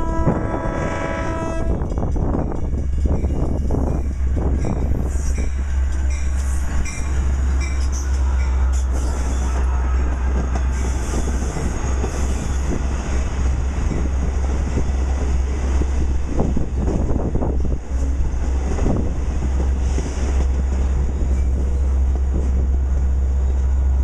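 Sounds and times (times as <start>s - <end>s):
diesel locomotive passing: 0.0s - 24.0s
train coaches rolling past: 0.0s - 24.0s.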